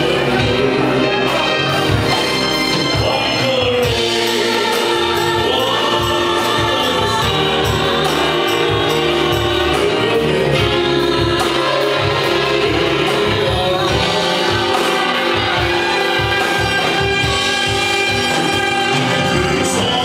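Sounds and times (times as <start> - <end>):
person singing: 0.0 - 20.0
steady drum beat: 0.0 - 20.0.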